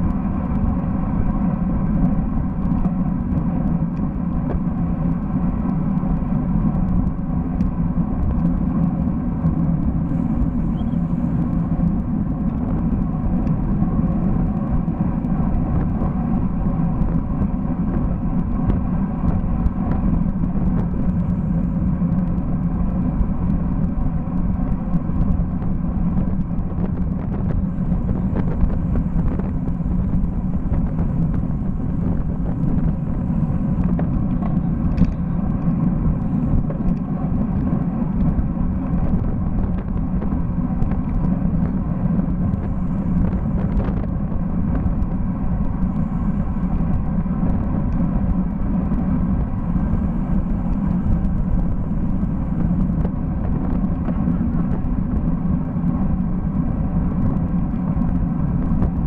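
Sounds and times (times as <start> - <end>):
road rumble: 0.0 - 59.0
wind rush: 0.0 - 59.0.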